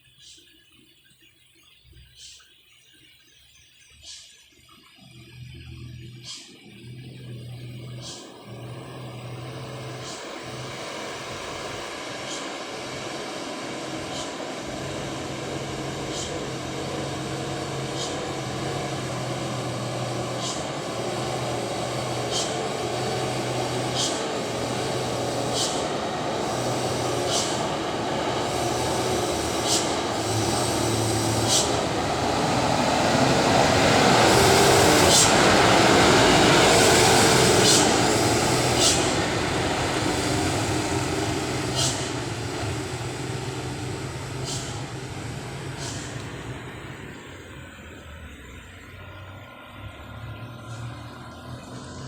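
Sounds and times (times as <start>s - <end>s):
dump truck diesel engine: 5.2s - 52.0s.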